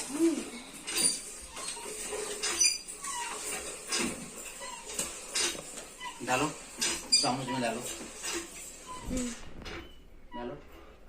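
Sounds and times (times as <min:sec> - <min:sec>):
utensils and dishes clattering: 0:00.0 - 0:10.0.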